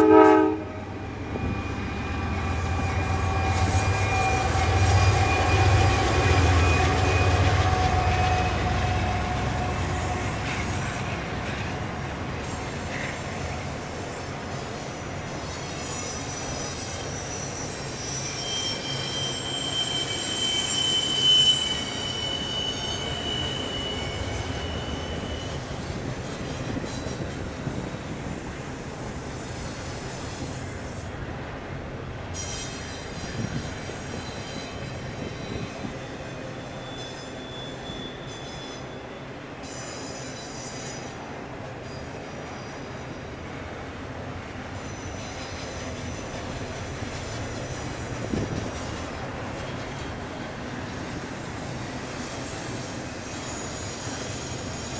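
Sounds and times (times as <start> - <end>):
freight train wheels rumbling: 0.0 - 54.9
high-pitched wheel squeal: 1.2 - 10.7, 12.4 - 28.4, 32.4 - 41.2, 44.6 - 54.9.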